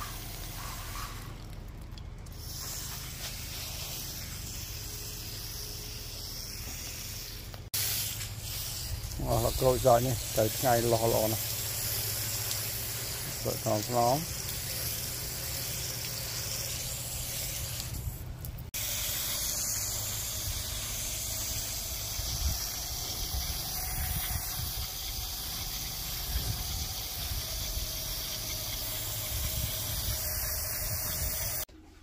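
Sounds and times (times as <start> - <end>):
hose nozzle spraying water: 0.0 - 31.7.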